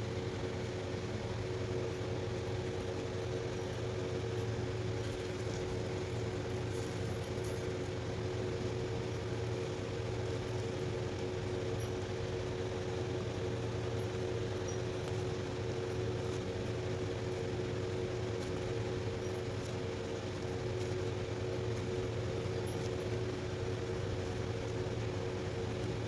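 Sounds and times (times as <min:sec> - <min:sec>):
machine hum with steady tones: 0:00.0 - 0:26.0.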